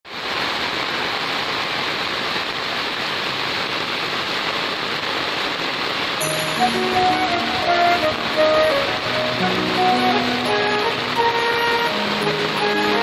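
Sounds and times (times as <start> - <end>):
heavy rain pouring on ground: 0.1 - 13.0.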